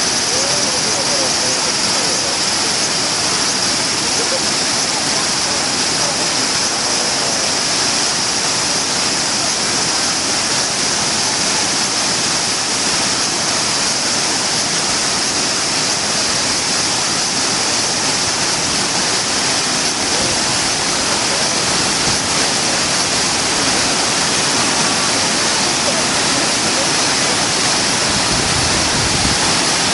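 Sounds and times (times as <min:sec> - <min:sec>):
waterfall pouring: 0:00.0 - 0:29.9.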